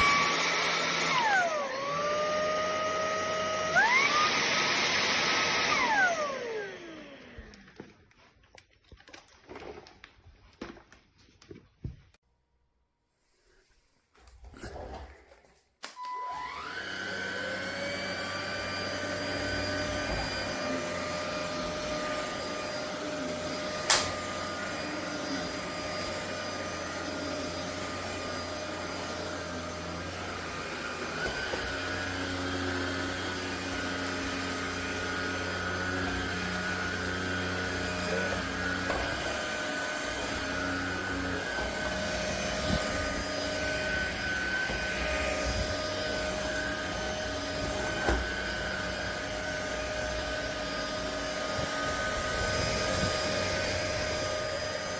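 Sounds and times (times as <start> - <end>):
vacuum motor whining: 0.0 - 7.9, 15.9 - 54.9.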